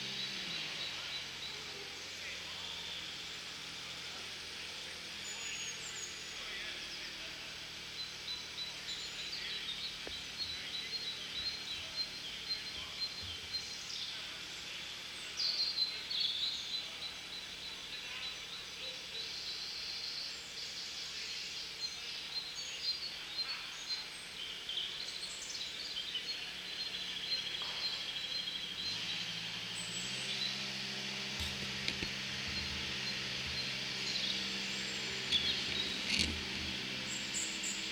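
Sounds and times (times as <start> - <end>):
songbirds singing: 0.0 - 37.9.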